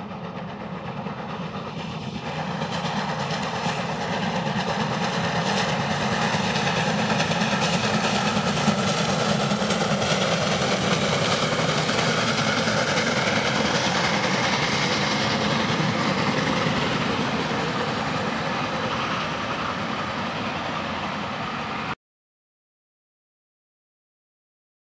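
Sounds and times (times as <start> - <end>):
train wheels running over rails: 0.0 - 22.0.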